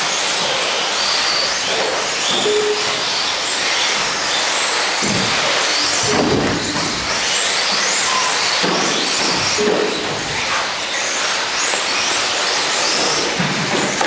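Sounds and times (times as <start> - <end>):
remote control car motors whining: 0.0 - 14.0.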